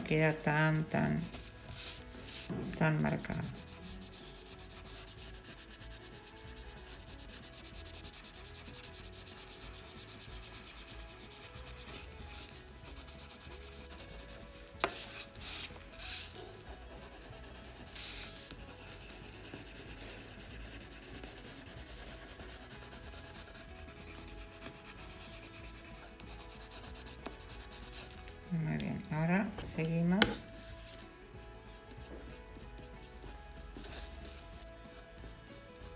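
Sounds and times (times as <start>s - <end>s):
pencil scratching on paper: 0.0s - 28.2s, 30.2s - 35.9s.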